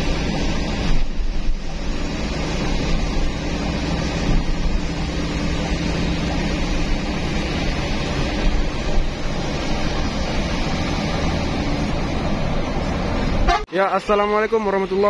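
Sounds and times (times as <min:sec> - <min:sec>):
bus engine running: 0:00.0 - 0:15.0
rushing noise: 0:00.0 - 0:15.0.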